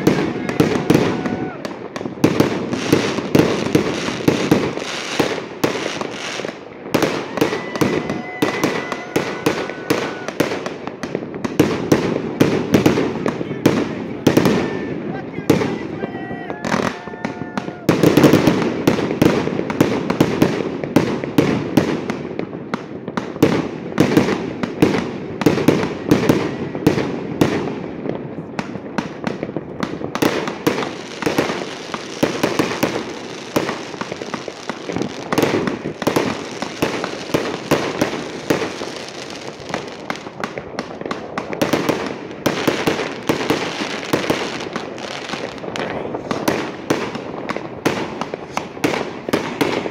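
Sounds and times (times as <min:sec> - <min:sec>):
fireworks banging: 0:00.0 - 0:49.9
fireworks crackling: 0:00.0 - 0:49.9.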